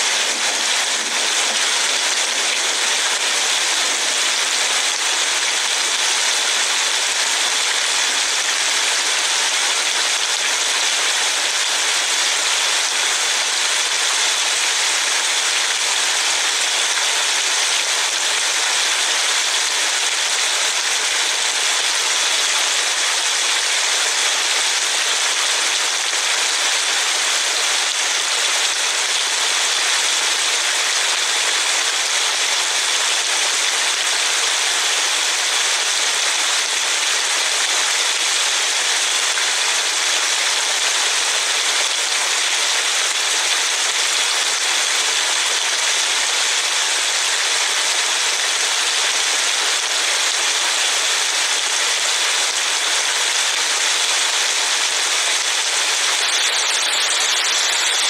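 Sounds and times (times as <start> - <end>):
rain hissing on a car: 0.0 - 58.0.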